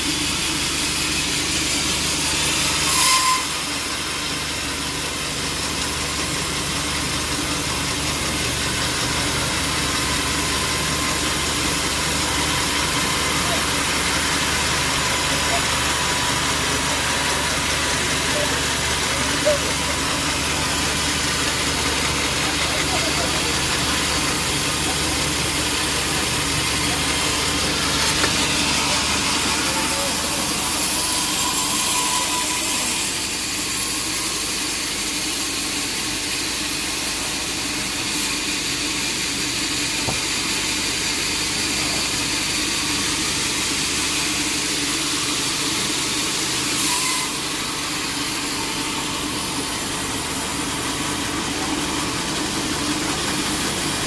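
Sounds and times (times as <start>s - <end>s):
continuous machinery hiss: 0.0s - 54.0s.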